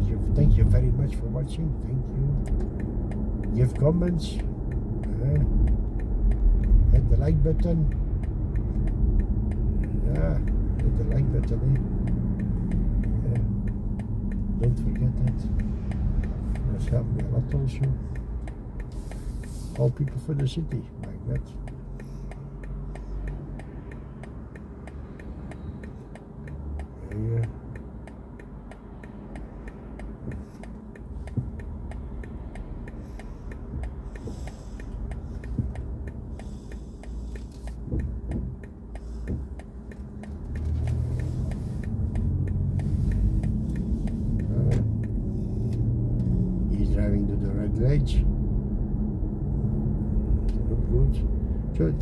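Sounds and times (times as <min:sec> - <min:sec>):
faint light ticking: 0:00.0 - 0:52.0
tyre and road rumble: 0:00.0 - 0:52.0.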